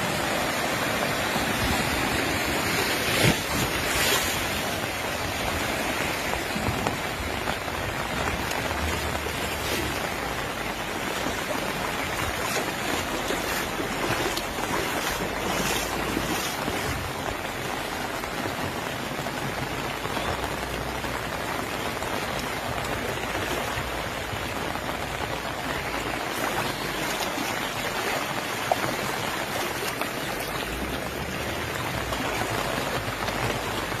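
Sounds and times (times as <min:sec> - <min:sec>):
floodwater running over street: 0:00.0 - 0:34.0
heavy rain falling: 0:00.0 - 0:34.0.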